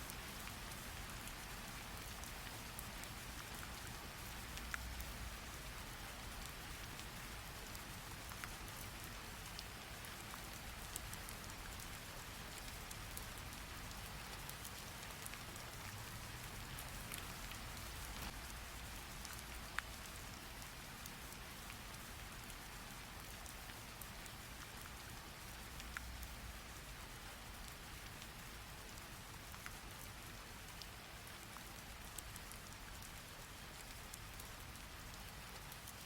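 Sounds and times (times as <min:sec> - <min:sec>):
steady rain hiss: 0:00.0 - 0:36.0
rain drop ticks: 0:00.1 - 0:36.0.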